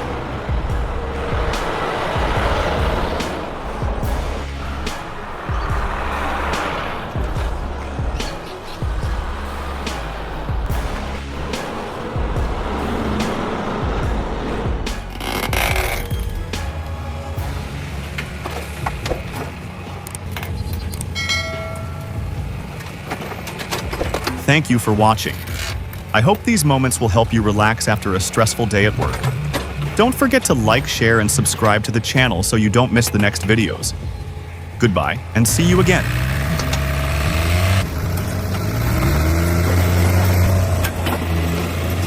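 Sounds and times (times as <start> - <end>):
heavy vehicle engine rumbling: 0.0 - 42.0.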